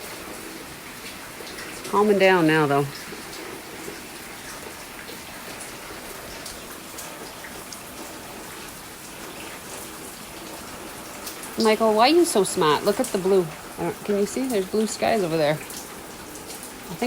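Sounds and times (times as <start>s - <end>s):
raindrops ticking: 0.0s - 17.0s
steady rain hiss: 0.0s - 17.0s.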